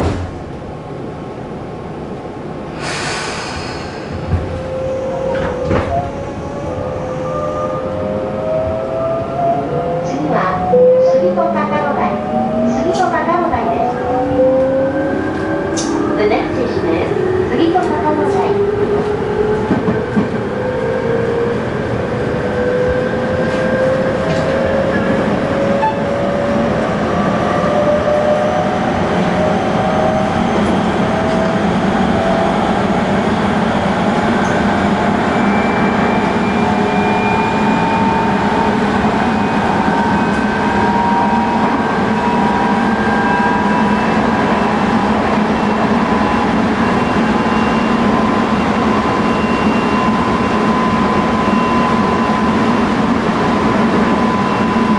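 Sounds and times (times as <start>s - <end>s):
wheels rumbling on rail: 0.0s - 54.9s.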